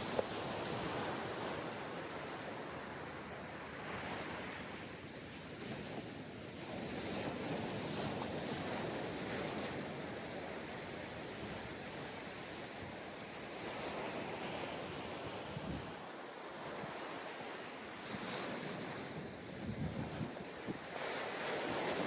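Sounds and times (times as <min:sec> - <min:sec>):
ocean surf on beach: 0:00.0 - 0:22.0.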